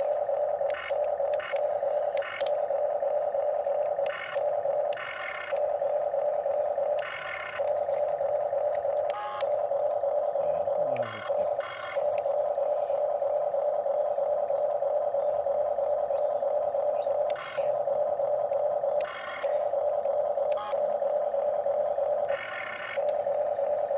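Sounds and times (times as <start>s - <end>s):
buzzy motor sound: 0.0s - 23.9s
electric motors whining: 0.0s - 23.9s.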